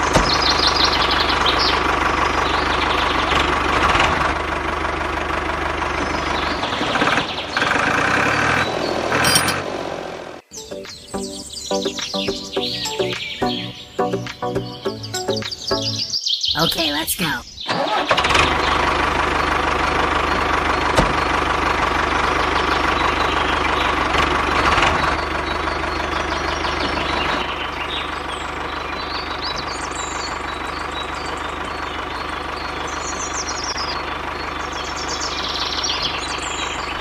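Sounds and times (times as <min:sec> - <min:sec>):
small tractor engine running: 0:00.0 - 0:10.4, 0:17.7 - 0:37.0.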